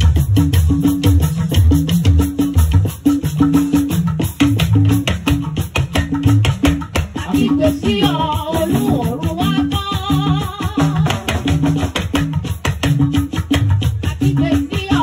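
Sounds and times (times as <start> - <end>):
talking drum played with stick: 0.0 - 15.0.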